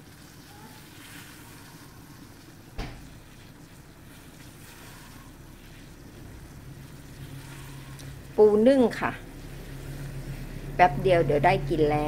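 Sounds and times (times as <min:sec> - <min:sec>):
steamer pot hissing and rumbling: 0:00.0 - 0:12.0.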